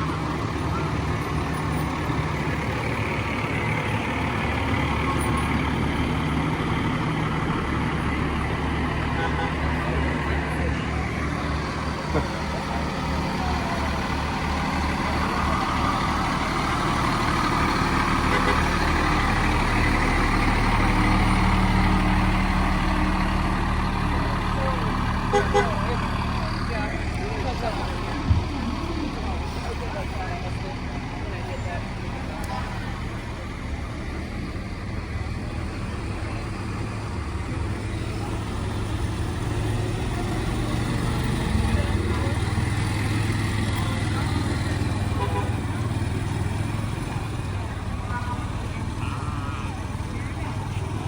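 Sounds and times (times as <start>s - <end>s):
traffic noise: 0.0s - 51.0s
truck engine running: 0.0s - 51.0s.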